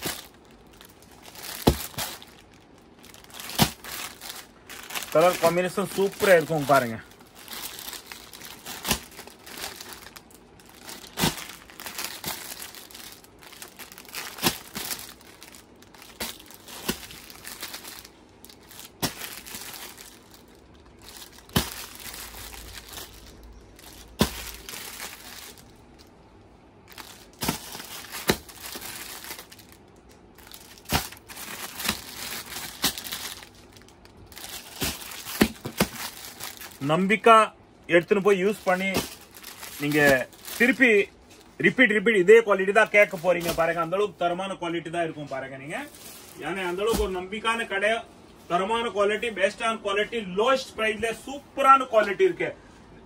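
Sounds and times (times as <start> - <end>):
plastic packaging crinkling: 0.0 - 44.2, 45.8 - 47.7.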